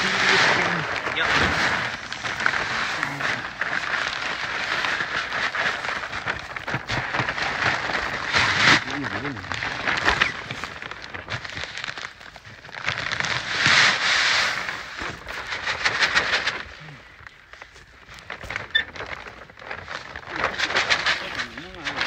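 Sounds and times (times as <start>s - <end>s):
pellets pouring with rattling hiss: 0.0s - 22.0s
plastic sack crinkling: 0.0s - 22.0s.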